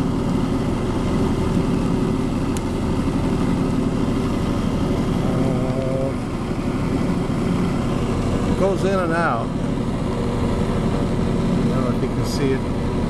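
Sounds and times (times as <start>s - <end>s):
brake lathe motor running: 0.0s - 13.0s.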